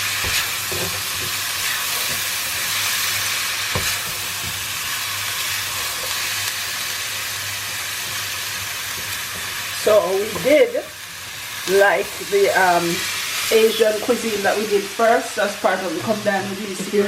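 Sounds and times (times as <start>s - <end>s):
stir-fry sizzling in pot: 0.0s - 17.0s.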